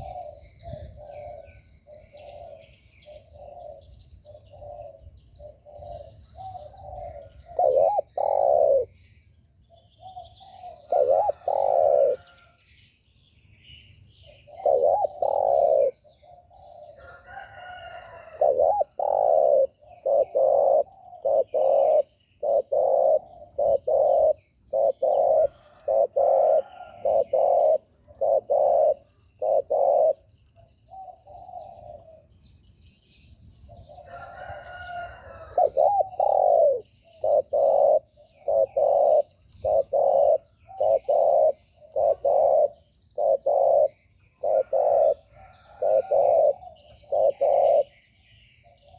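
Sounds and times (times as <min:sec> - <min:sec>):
dove cooing: 0:00.0 - 0:12.6, 0:14.2 - 0:32.6, 0:33.7 - 0:48.9.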